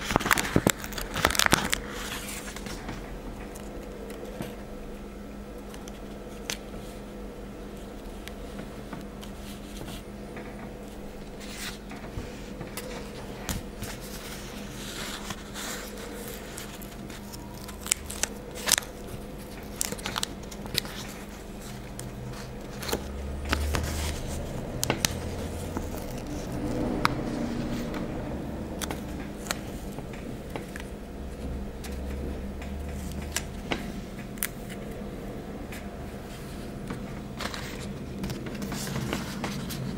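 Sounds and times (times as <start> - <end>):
stickers crinkling and clicking: 0.0 - 4.6, 7.7 - 35.0, 36.8 - 39.9
faint steady hum: 0.0 - 39.9.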